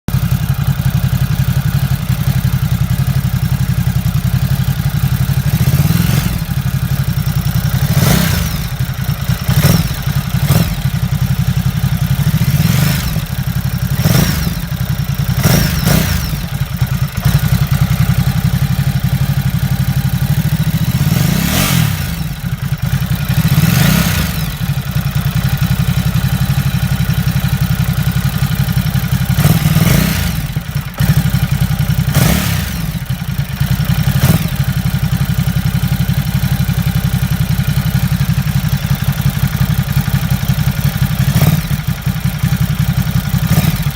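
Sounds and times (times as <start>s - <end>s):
motorcycle engine idling: 0.1s - 43.9s.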